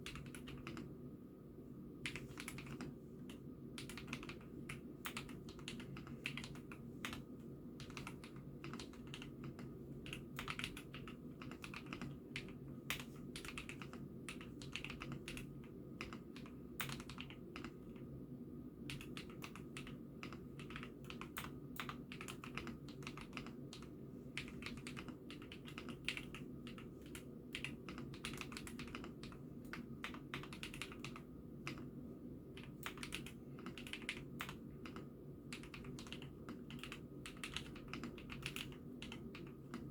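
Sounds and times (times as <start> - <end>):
mechanical keyboard typing: 0.0 - 0.9, 2.0 - 18.0, 18.9 - 31.9, 32.6 - 39.9
low background hum: 0.0 - 39.9.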